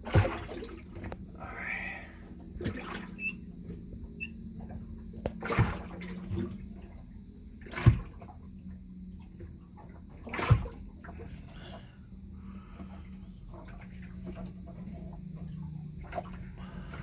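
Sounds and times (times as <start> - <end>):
steady low hum: 0.0 - 17.0
water sloshing and splashing: 0.0 - 17.0.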